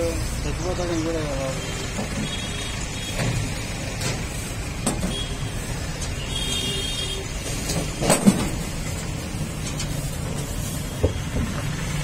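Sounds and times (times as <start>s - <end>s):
roadside traffic noise: 0.0s - 12.0s.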